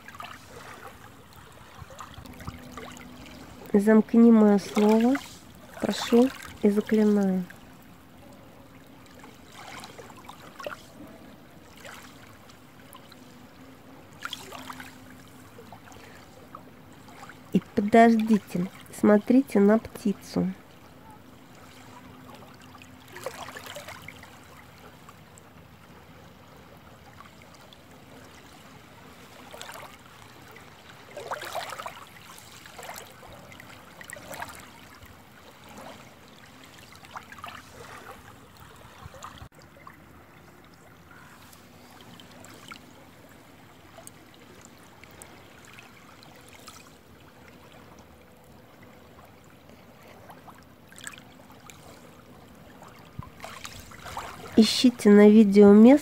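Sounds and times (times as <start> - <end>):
water lapping at rocks: 0.0 - 56.0
water splashing: 0.0 - 56.0.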